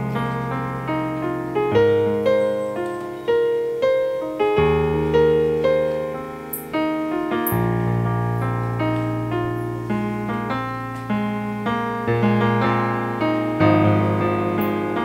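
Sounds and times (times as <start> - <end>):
held piano bass notes: 0.0 - 15.0
slow piano melody: 0.0 - 15.0.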